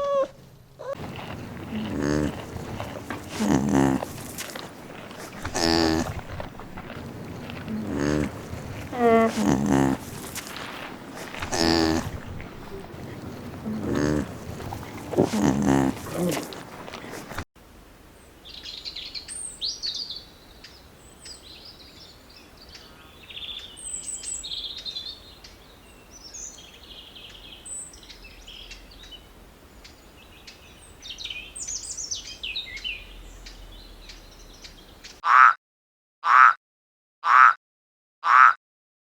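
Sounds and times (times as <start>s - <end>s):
songbirds chirping: 0.0s - 17.4s, 18.1s - 35.2s
faint outdoor background noise: 0.0s - 35.2s.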